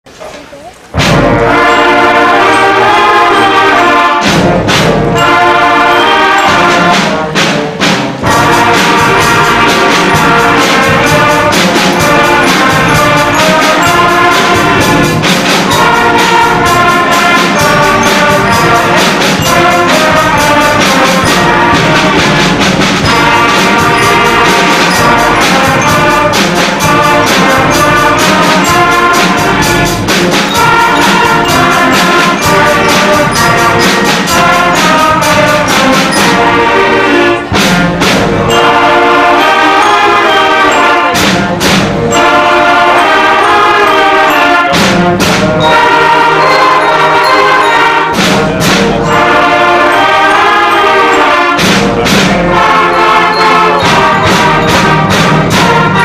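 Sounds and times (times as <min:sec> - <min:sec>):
concert band playing: 0:00.1 - 0:56.0.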